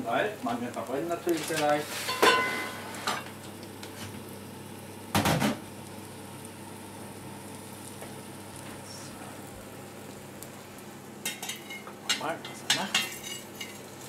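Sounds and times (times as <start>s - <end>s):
patty sizzling in oil: 0.0s - 14.0s.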